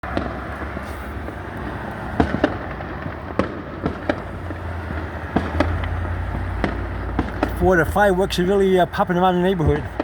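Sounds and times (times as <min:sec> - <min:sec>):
distant fireworks bangs: 0:00.0 - 0:10.0.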